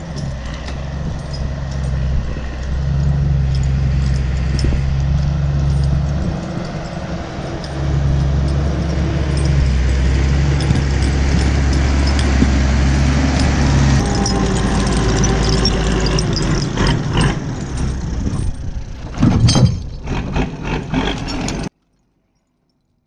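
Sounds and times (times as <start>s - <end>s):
diesel engine running: 0.0s - 21.7s
loud engine knocks: 0.0s - 21.7s.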